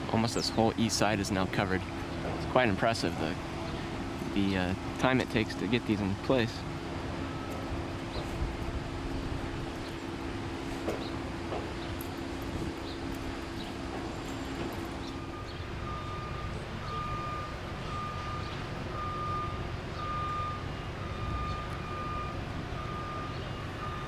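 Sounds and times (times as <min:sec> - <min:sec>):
low steady rumble: 0:00.0 - 0:24.0
reversing alarm beeping: 0:01.0 - 0:24.0.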